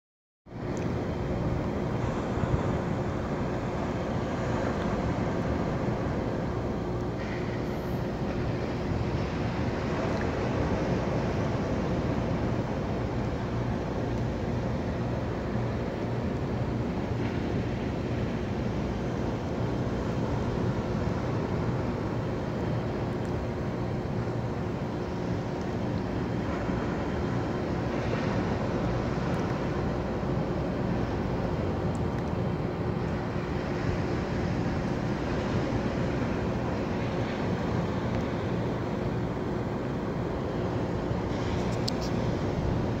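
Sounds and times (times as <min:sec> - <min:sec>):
distant ocean surf: 0:00.5 - 0:43.0
wind rumbling on microphone: 0:00.5 - 0:43.0.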